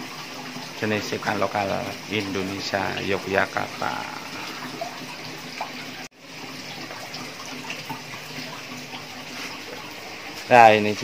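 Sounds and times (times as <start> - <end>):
running water splashing: 0.0 - 11.0.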